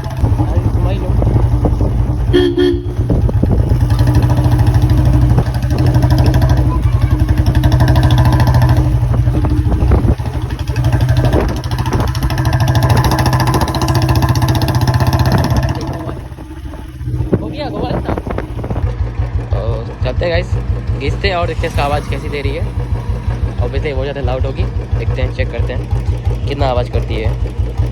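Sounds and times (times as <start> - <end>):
motorcycle engine exhaust beat: 0.0 - 27.9.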